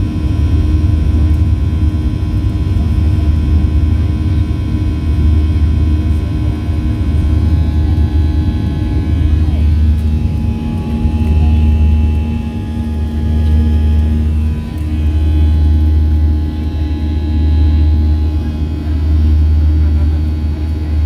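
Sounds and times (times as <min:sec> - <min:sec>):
deep cabin rumble: 0:00.0 - 0:21.0
jet engine whine: 0:00.0 - 0:21.0.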